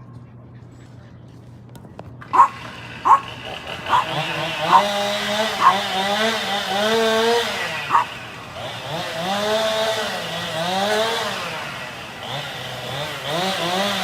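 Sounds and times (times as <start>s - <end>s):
chainsaw cutting wood: 2.2s - 14.0s.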